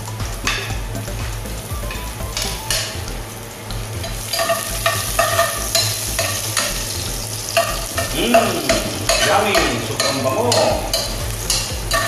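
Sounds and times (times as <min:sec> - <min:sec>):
garlic sizzling in oil: 0:01.6 - 0:12.0.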